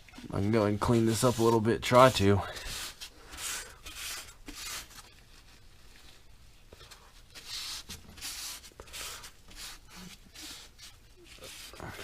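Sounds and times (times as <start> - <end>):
rag rubbing strokes: 0.2 - 5.1, 7.2 - 12.0.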